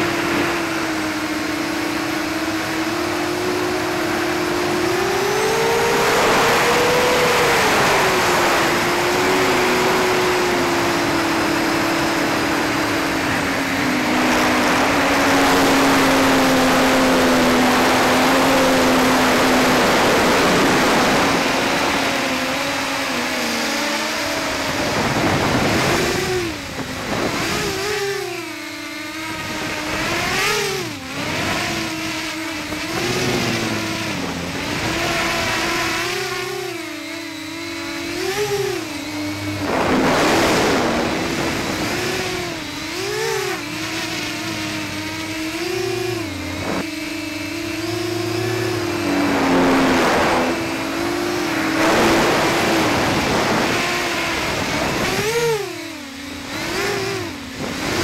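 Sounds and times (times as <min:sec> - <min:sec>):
wind rushing over microphone: 0:00.0 - 0:28.4, 0:29.0 - 0:55.7, 0:56.5 - 0:58.0
drone motors whining: 0:00.0 - 0:58.0.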